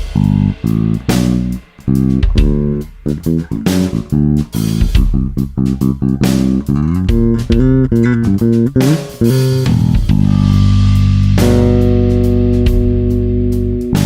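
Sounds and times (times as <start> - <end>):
electric bass plucked notes: 0.0 - 14.0.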